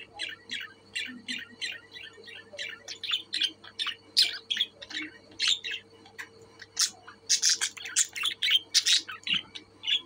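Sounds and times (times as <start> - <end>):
budgerigars chirping and squawking: 0.0 - 10.0.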